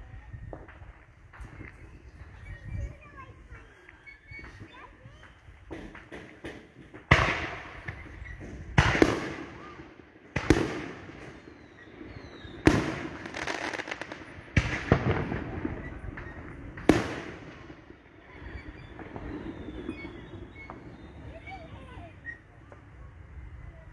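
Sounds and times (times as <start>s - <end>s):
fireworks bangs echoing: 0.0s - 23.4s.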